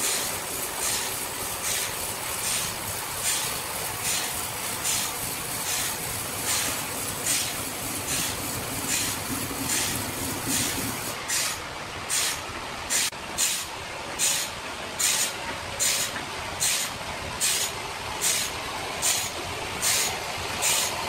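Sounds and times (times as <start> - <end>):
band saw cutting timber: 0.0 - 21.0
hissing whoosh of saw: 0.0 - 21.0.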